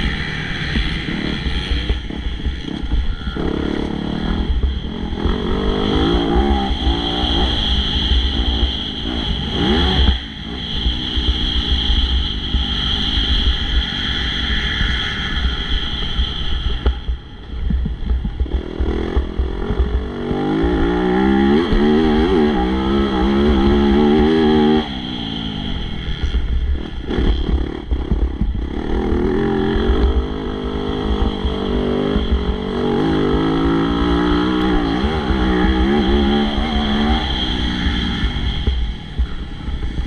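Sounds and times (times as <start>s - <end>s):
motocross bike engine revving: 0.0s - 13.9s, 18.3s - 40.0s
steady low rumble: 0.0s - 40.0s.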